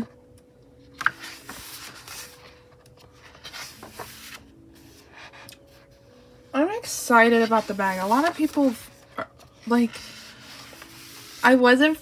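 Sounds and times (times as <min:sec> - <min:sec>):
paper pages rustling: 0:01.0 - 0:05.9, 0:07.2 - 0:12.0.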